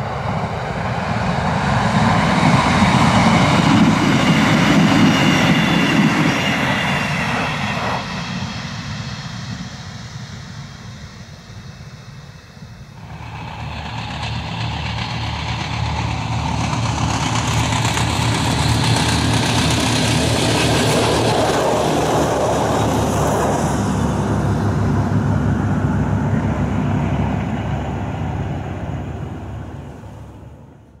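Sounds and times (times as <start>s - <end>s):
diesel railcar passing: 0.0s - 31.0s.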